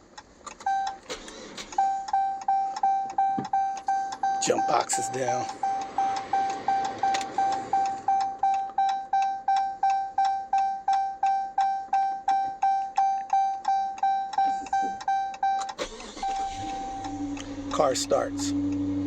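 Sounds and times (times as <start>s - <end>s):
dashboard warning chime: 1.7s - 19.0s
held warning tone: 1.8s - 19.0s.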